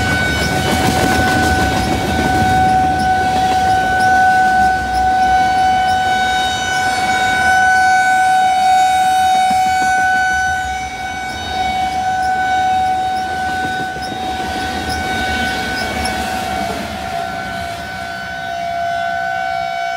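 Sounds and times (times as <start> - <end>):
train wheels rumbling on rails: 0.0 - 19.9
warning siren wailing: 0.0 - 19.9.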